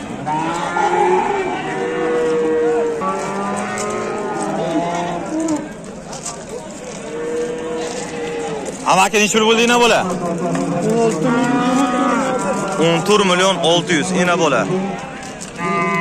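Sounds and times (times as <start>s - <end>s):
cattle mooing: 0.0s - 5.7s, 6.9s - 8.9s, 9.6s - 16.0s.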